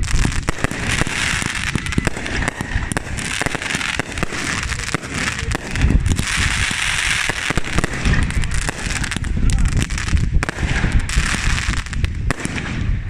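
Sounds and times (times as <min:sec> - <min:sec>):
deep firework booms: 0:00.0 - 0:13.0
fireworks crackling and popping: 0:00.0 - 0:13.0.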